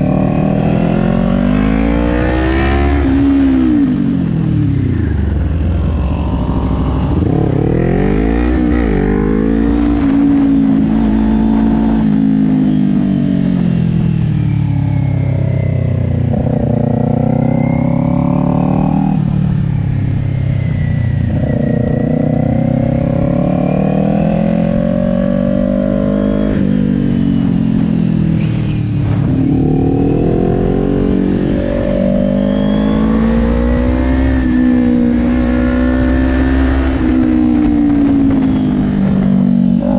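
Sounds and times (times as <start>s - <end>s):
motorcycle engine revving: 0.0s - 14.3s, 15.2s - 39.9s.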